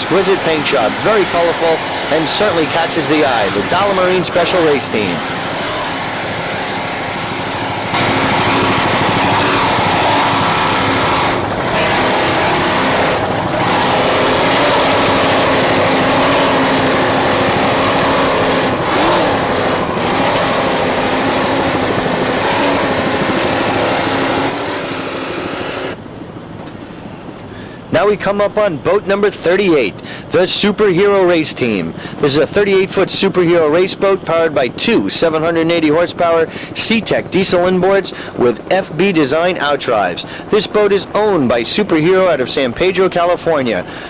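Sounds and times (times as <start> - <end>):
powerboat engines roaring: 0.0 - 44.0.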